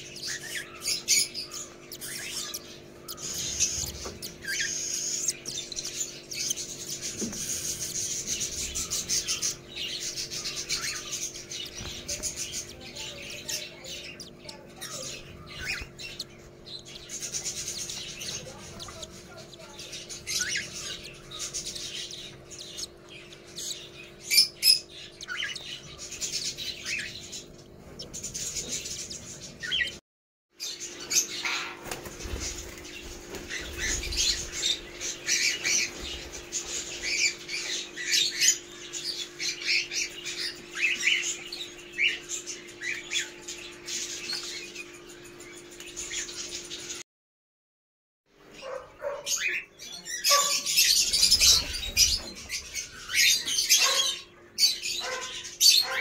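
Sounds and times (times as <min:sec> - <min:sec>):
birds chirping and squawking: 0:00.0 - 0:30.0, 0:30.6 - 0:47.0, 0:48.3 - 0:56.0.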